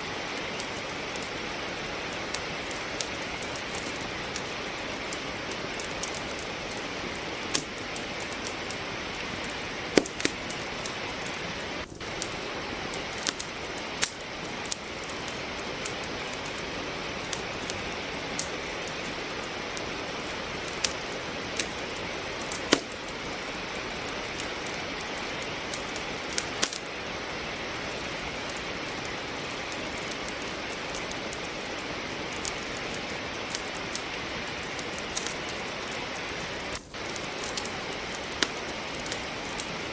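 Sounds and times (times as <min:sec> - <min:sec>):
firewood crackling and popping: 0:00.0 - 0:39.9
rain hissing: 0:00.0 - 0:39.9.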